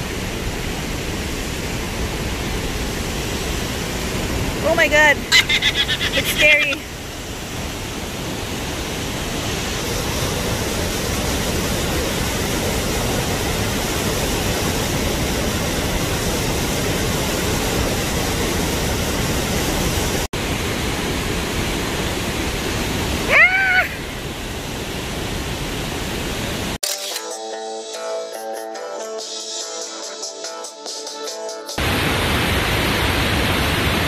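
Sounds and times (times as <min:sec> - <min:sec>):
waterfall rushing: 0:00.0 - 0:26.8, 0:31.8 - 0:34.0.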